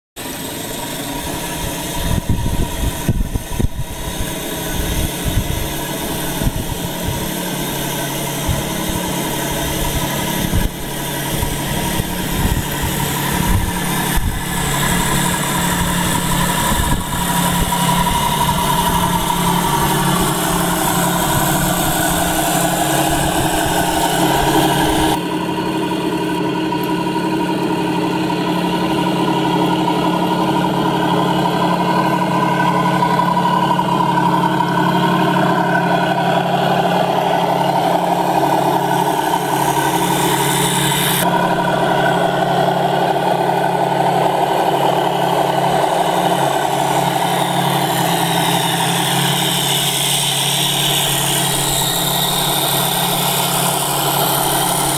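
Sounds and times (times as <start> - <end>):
toy tank motor droning and whining: 0.2 - 54.9.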